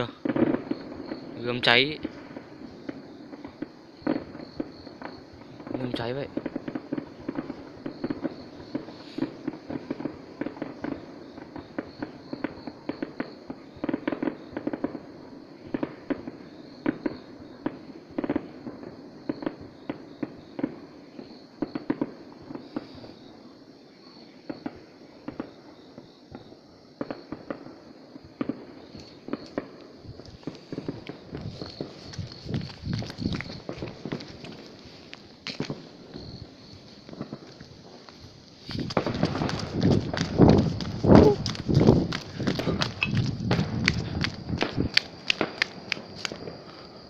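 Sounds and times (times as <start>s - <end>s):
fireworks popping and banging: 0.0s - 23.2s, 24.5s - 46.9s.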